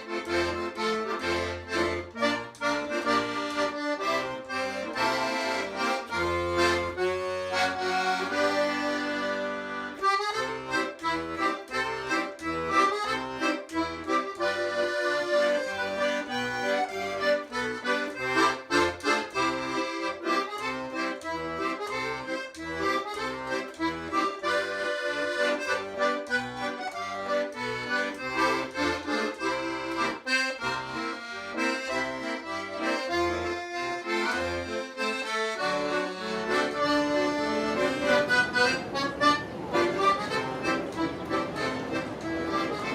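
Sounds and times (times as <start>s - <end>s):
accordion music: 0.0s - 42.9s.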